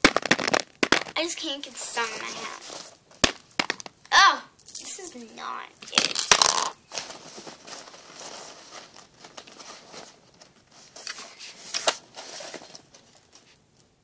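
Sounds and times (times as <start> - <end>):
plastic toy figures rustling and clicking: 0.0 - 13.9.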